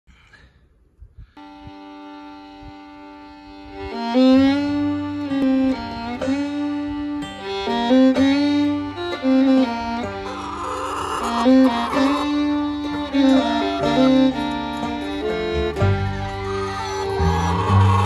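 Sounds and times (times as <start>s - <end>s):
held drone note: 1.4s - 18.0s
stepping melody: 1.4s - 18.0s.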